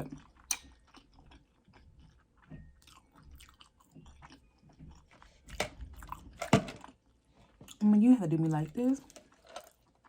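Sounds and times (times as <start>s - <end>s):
person chewing food: 0.0s - 8.0s, 9.0s - 10.0s.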